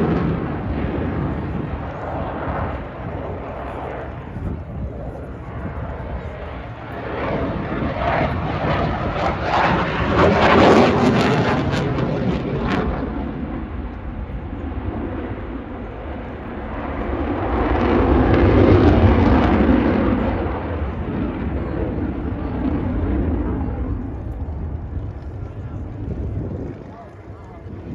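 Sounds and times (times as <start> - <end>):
aircraft flying past: 0.0 - 27.9.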